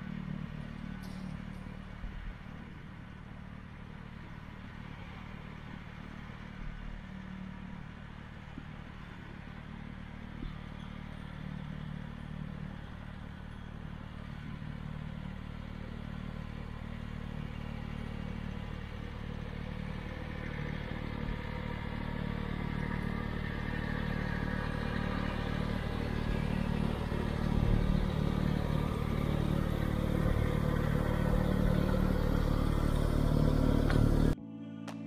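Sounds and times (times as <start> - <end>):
tractor engine running: 0.0 - 34.4.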